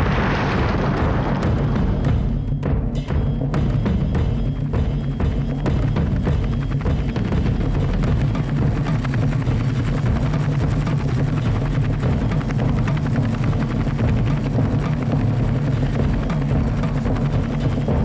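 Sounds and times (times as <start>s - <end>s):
rapid low chopping rumble: 0.0s - 18.0s.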